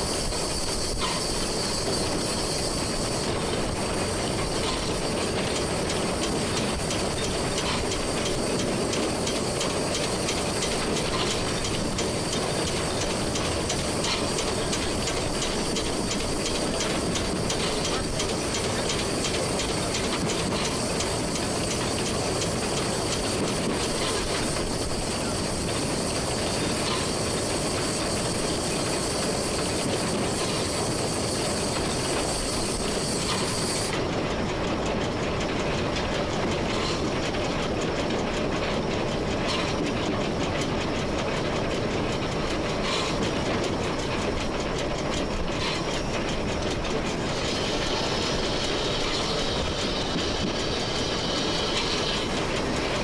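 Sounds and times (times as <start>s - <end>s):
steam hissing: 0.0s - 34.3s, 36.2s - 53.0s
wheels clicking over rail joints: 0.0s - 53.0s.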